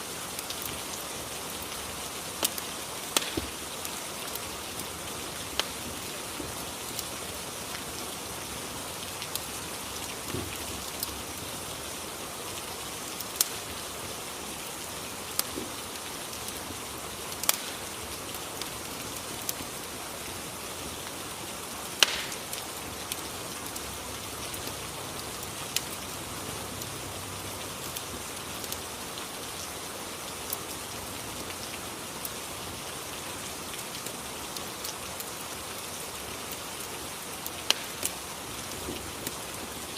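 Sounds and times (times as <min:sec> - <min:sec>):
steady rain hiss: 0:00.0 - 0:39.9
wood fire popping and crackling: 0:00.0 - 0:39.9.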